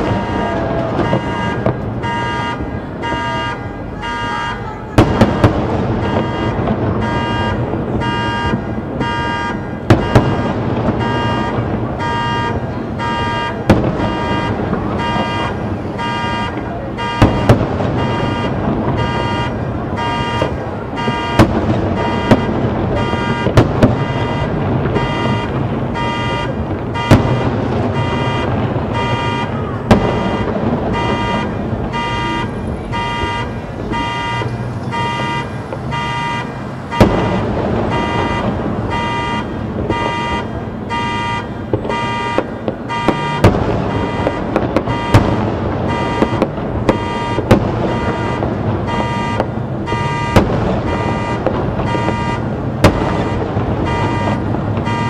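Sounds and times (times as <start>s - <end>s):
car alarm beeping: 0.0s - 55.0s
fireworks booming: 0.0s - 55.0s.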